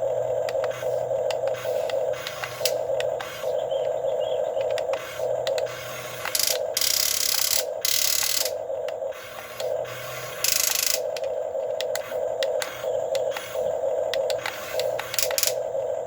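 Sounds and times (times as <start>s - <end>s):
electric motors whirring: 0.0s - 16.0s
scattered clicks: 0.4s - 15.7s
hissing bursts: 0.5s - 3.7s, 4.7s - 15.7s.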